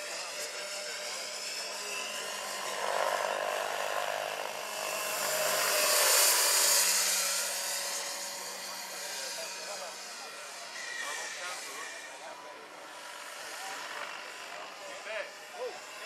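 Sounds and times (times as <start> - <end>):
electric model helicopter whine: 0.0 - 16.0.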